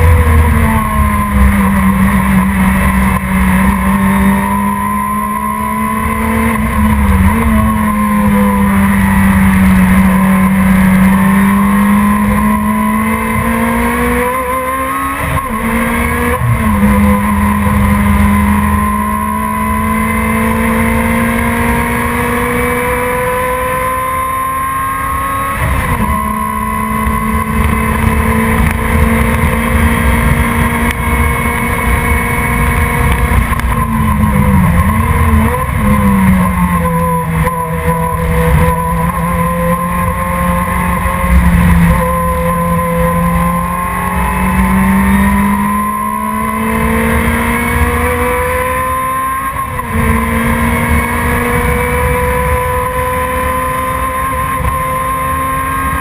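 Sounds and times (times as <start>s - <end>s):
sports car engine revving: 0.0s - 56.0s.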